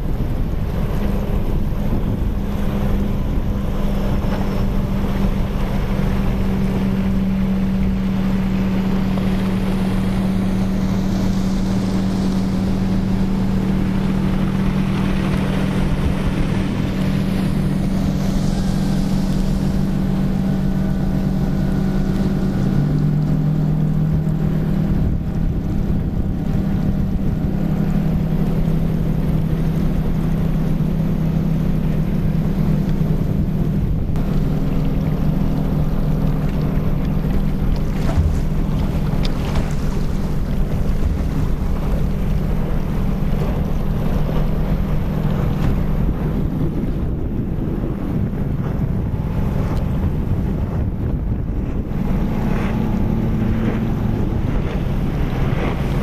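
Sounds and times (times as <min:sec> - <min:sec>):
lower engine drone: 0:00.0 - 0:56.0
motorboat engines droning: 0:00.0 - 0:56.0
rushing spray and wake: 0:00.0 - 0:56.0
wind on microphone: 0:00.0 - 0:56.0.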